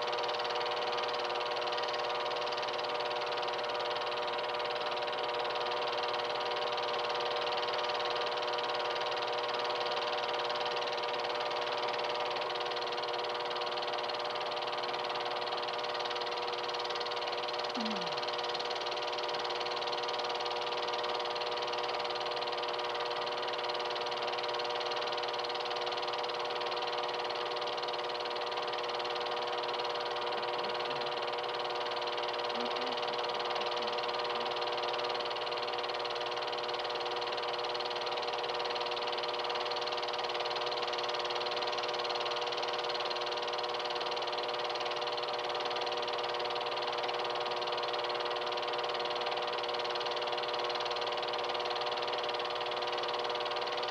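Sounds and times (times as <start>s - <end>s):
film projector running: 0.0s - 53.9s.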